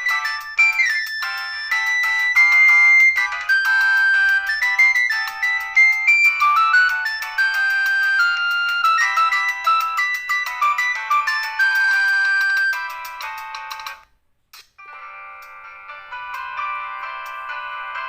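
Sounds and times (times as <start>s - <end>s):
polyphonic cellphone ringtone: 0.0s - 14.0s, 14.8s - 18.0s.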